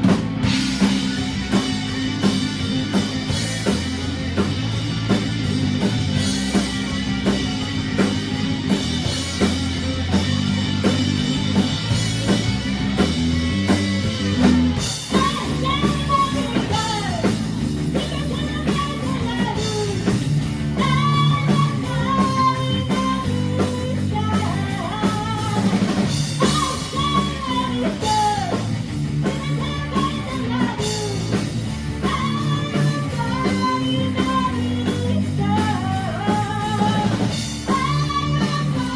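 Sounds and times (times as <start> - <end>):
bending lead guitar melody: 0.0 - 38.9
rock band playing: 0.0 - 38.9.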